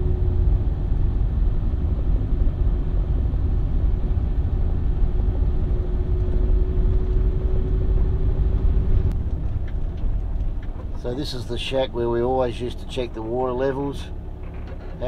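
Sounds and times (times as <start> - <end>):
car engine and tyres rumbling: 0.0 - 15.0
faint constant hum: 0.0 - 15.0.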